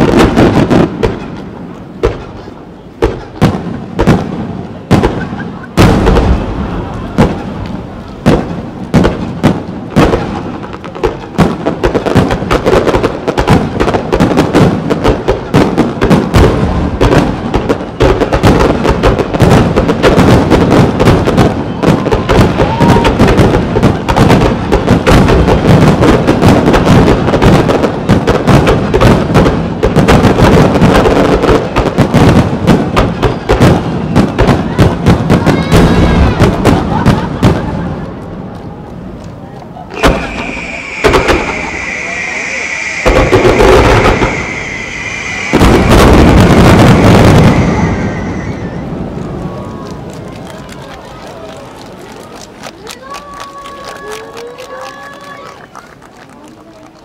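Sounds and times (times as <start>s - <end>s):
fireworks bursting: 0.0s - 56.2s.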